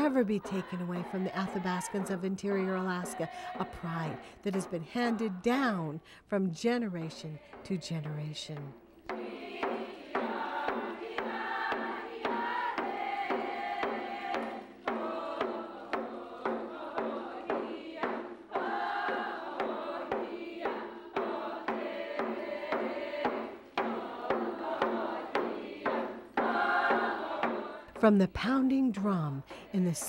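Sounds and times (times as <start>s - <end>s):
group chanting in unison: 0.0s - 5.9s, 9.1s - 27.9s
frame drums beating: 0.0s - 6.0s, 6.6s - 30.0s.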